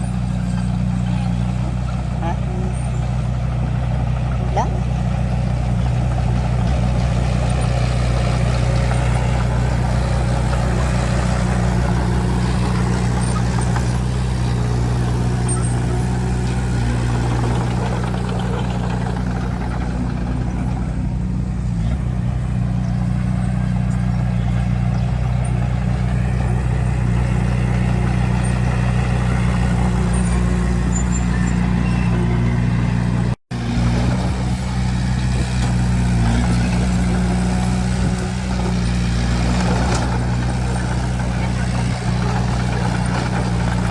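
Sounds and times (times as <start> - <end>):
bulldozer diesel engine droning: 0.0 - 43.9.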